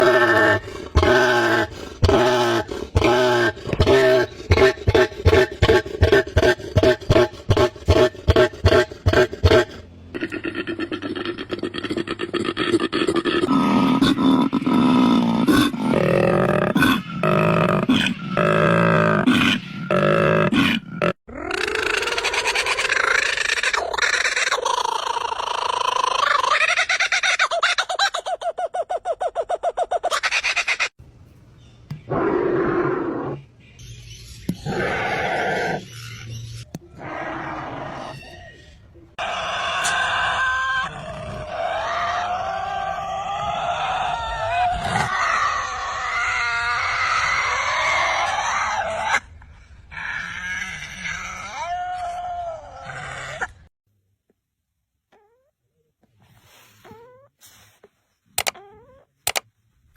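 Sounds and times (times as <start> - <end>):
screeching animal calls: 0.0 - 28.4, 32.1 - 33.5, 34.2 - 53.7.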